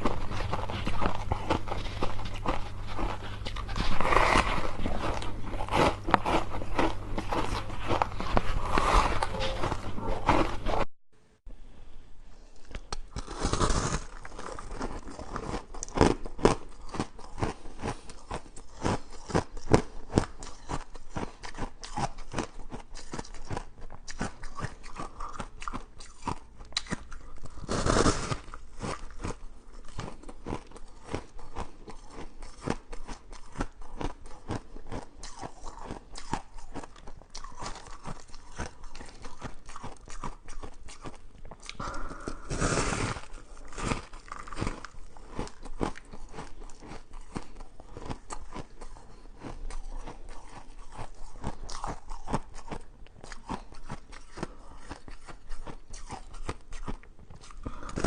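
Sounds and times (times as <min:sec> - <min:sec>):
crunching and chewing shaved ice: 0:00.0 - 0:10.9, 0:12.6 - 0:58.0.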